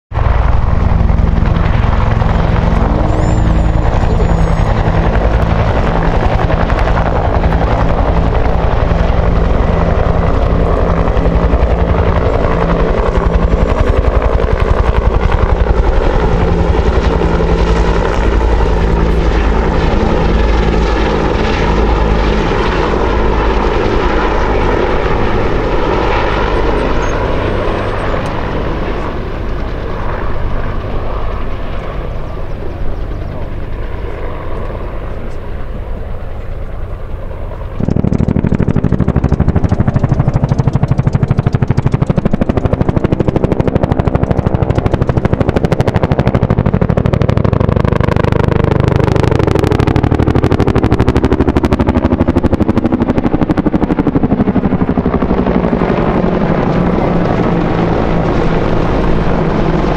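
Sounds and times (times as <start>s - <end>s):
helicopter engine drone: 0.1s - 59.9s
helicopter rotors thumping: 0.1s - 59.9s.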